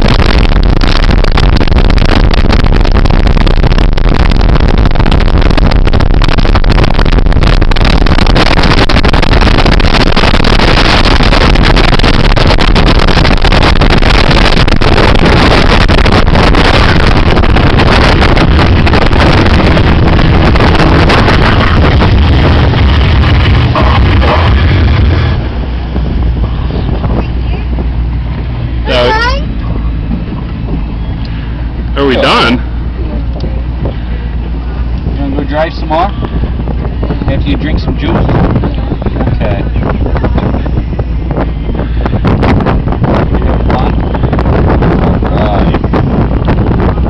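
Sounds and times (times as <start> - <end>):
motorboat engine running: 0.0 - 47.0
rushing wind and water: 0.0 - 47.0.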